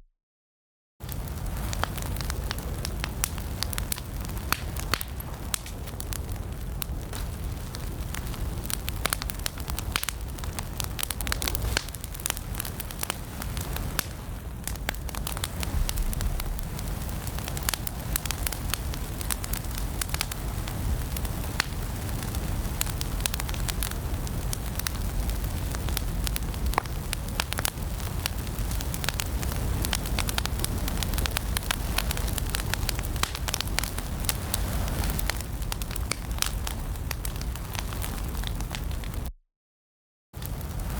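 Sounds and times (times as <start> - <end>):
fire popping and crackling: 1.0 - 39.3, 40.4 - 40.9
low rumble of flames: 1.0 - 39.3, 40.4 - 40.9.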